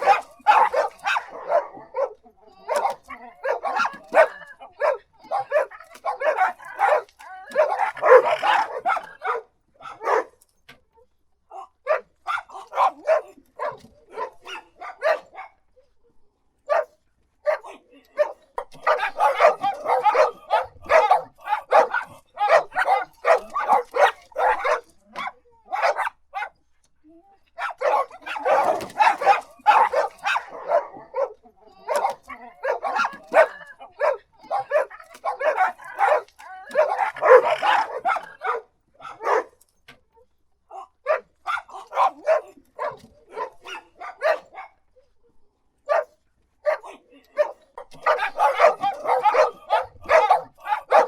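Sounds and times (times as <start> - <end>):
dog barking: 0.0 - 10.4, 11.8 - 15.9, 16.7 - 26.6, 27.6 - 39.6, 40.7 - 45.1, 45.8 - 51.0.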